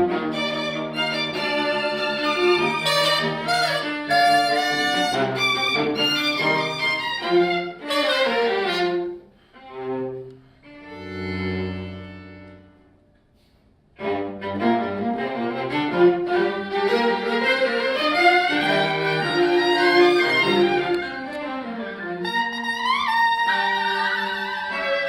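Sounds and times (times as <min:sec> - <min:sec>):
string ensemble with traditional instruments: 0:00.0 - 0:12.9, 0:14.0 - 0:25.0.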